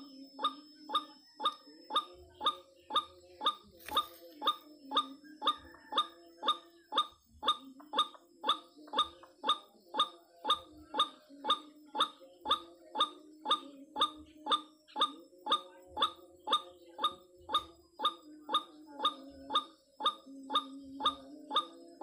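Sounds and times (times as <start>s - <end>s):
bird calling: 0.0s - 22.0s.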